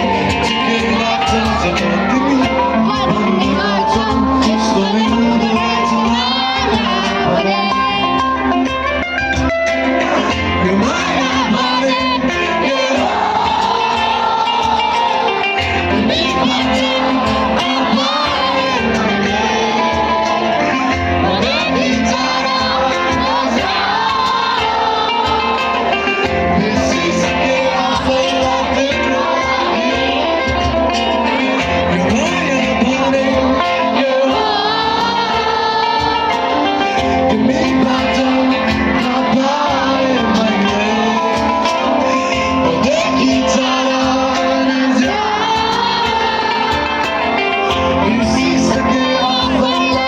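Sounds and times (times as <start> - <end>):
guitar: 0.0 - 50.0
lead singer singing: 0.0 - 50.0
live band playing: 0.0 - 50.0.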